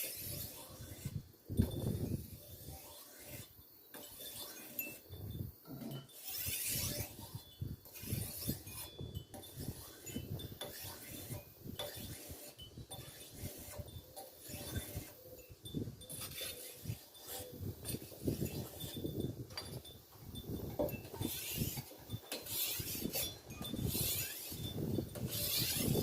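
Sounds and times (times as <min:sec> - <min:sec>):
blade scraping on sharpening stone: 0:00.0 - 0:20.0, 0:20.6 - 0:26.0.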